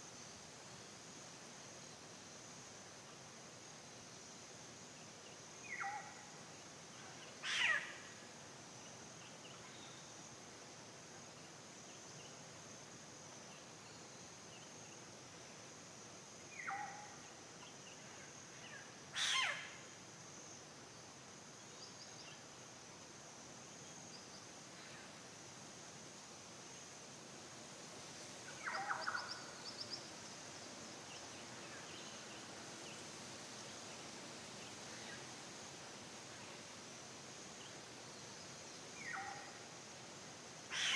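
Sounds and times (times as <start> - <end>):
steady high hiss: 0.0 - 40.9.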